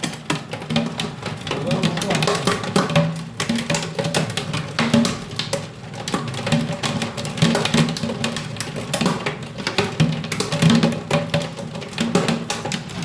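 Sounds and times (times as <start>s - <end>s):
hailstones pelting a hard surface: 0.0s - 13.0s.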